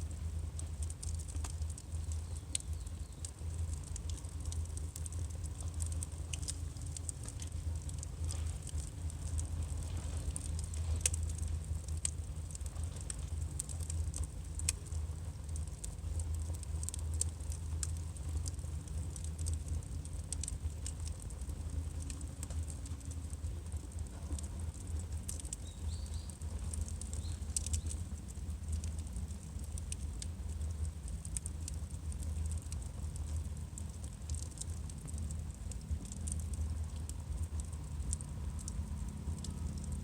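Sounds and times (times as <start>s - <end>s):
firewood crackling and popping: 0.0s - 40.0s
steady low rumble: 0.0s - 40.0s.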